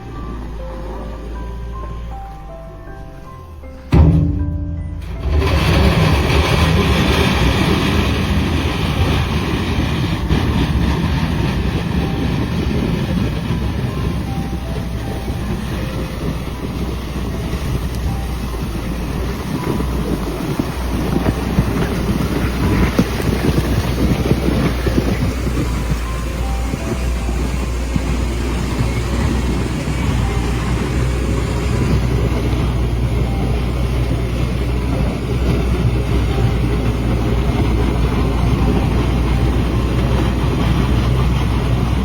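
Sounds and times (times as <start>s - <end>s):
snow-clearing machine engine rumble: 0.0s - 42.0s
wind buffeting microphone: 5.1s - 42.0s.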